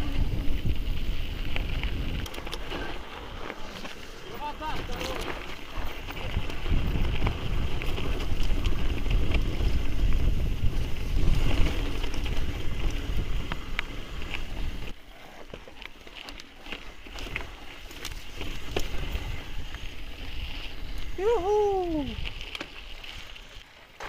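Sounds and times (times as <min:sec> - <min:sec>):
wind buffeting microphone: 0:00.0 - 0:14.9, 0:18.1 - 0:22.5
bike tyre noise: 0:00.0 - 0:24.0.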